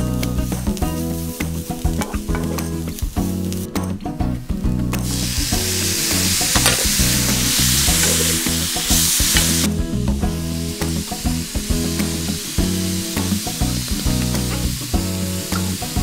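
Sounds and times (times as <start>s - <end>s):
tomatoes sizzling in a frying pan: 0.0s - 3.8s, 4.8s - 16.0s
background music with bass: 0.0s - 16.0s.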